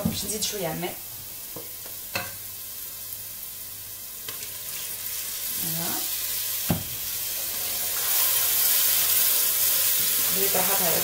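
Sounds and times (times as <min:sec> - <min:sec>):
sauce sizzling in a pot: 0:00.0 - 0:11.0.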